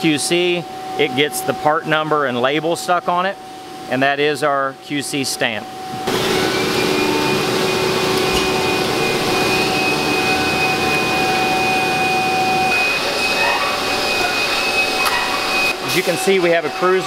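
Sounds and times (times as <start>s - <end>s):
workshop machine humming and whining: 0.0s - 3.9s, 5.4s - 17.0s.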